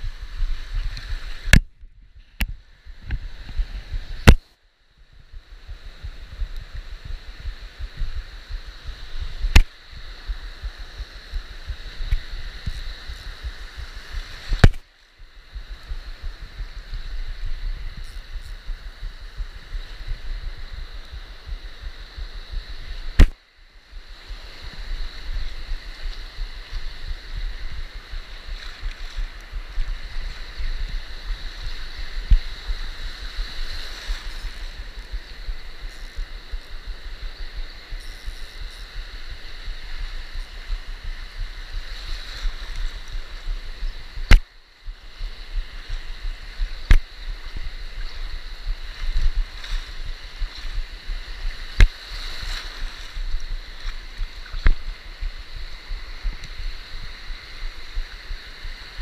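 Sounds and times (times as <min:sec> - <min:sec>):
surf washing at the waterline: 0:00.0 - 0:59.0.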